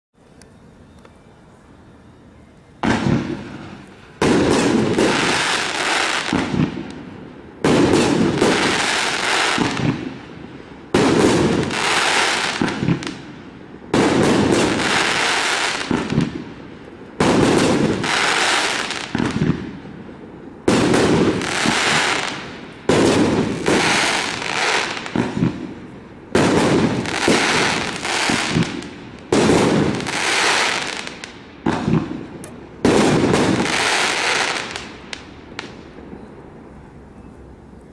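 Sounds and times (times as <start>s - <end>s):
firework bangs with hiss: 2.8s - 36.3s.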